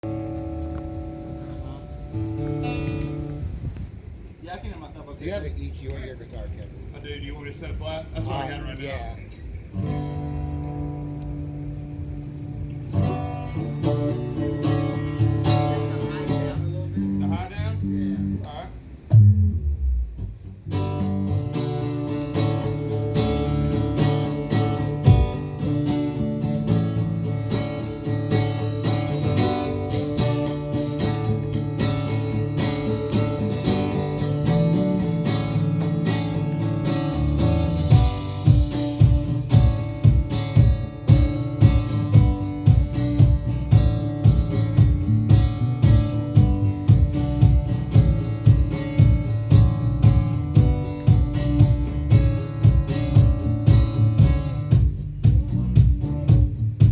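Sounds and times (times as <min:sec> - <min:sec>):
strummed guitar chords: 0:00.0 - 0:04.2, 0:09.6 - 0:56.9
steady low beat: 0:00.0 - 0:04.4, 0:09.4 - 0:56.9.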